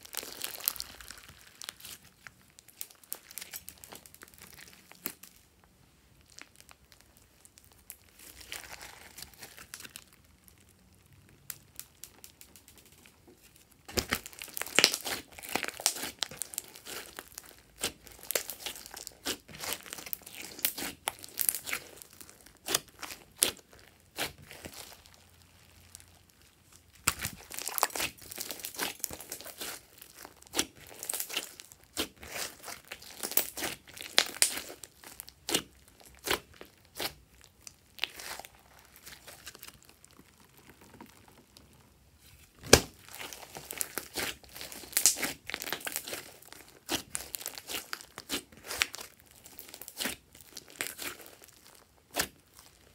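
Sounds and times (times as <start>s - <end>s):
slime squelching and popping: 0.0s - 5.6s, 6.2s - 52.9s.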